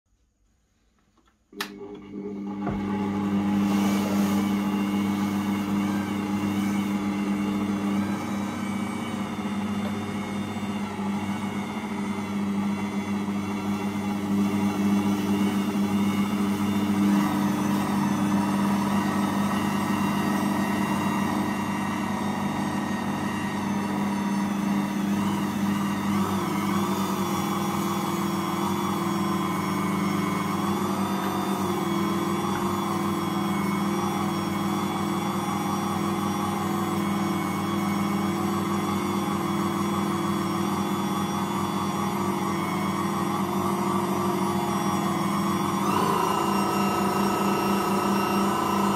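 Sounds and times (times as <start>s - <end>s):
stand mixer motor hum: 1.6s - 48.9s.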